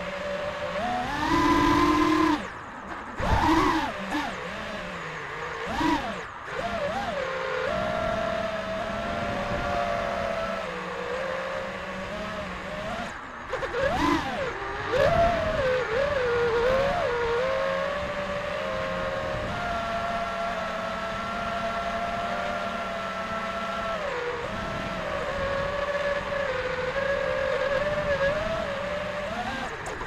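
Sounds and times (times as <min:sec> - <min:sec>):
drone motors whining: 0:00.0 - 0:30.0
wind rush on microphone: 0:00.0 - 0:30.0.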